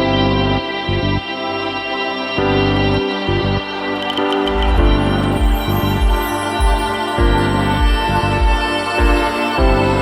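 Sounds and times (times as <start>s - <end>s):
synth chords: 0.0s - 10.0s.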